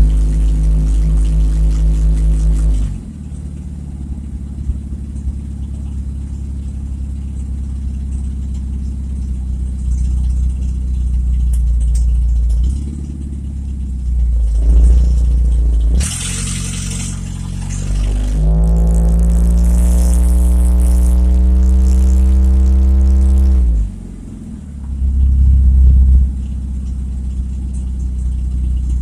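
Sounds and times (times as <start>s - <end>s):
car engine with leaky exhaust: 0.0s - 29.0s.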